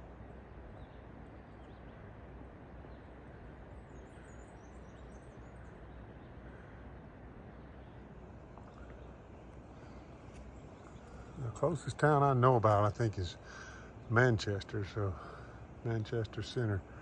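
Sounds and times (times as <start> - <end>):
songbird twittering: 2.8 - 17.0.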